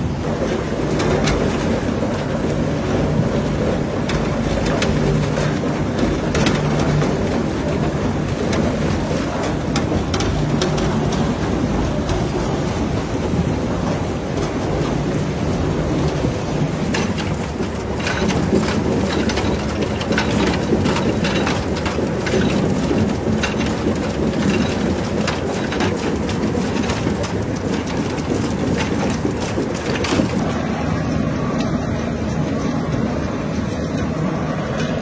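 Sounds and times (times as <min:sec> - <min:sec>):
clatter of roots in machine: 0:00.0 - 0:35.0
machinery rumbling: 0:00.0 - 0:35.0.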